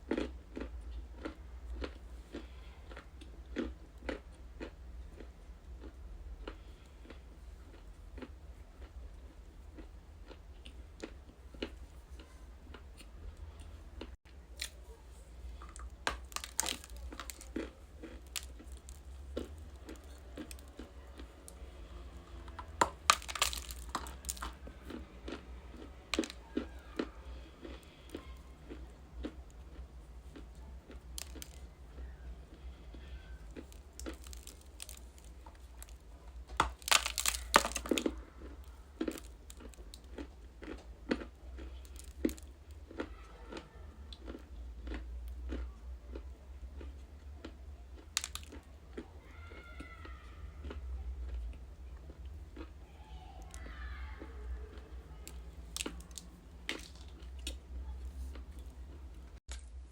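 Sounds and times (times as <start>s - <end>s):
clay being chewed and crunched: 0.0s - 49.8s, 50.6s - 52.8s, 53.4s - 59.8s
faint low hum: 0.0s - 59.9s.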